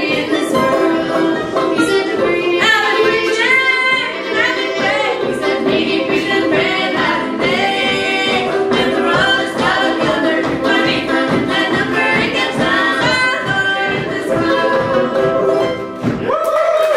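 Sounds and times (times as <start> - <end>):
voices singing in close harmony: 0.0 - 15.6
banjo accompaniment: 0.0 - 16.4.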